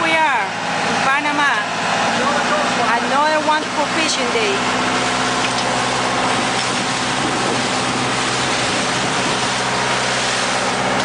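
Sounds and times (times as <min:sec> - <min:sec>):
boat engine running: 0:00.0 - 0:11.0
water washing: 0:00.0 - 0:11.0.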